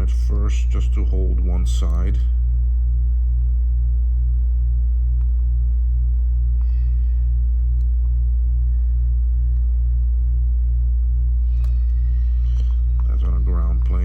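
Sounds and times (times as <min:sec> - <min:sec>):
air conditioner throbbing hum: 0:00.0 - 0:14.0.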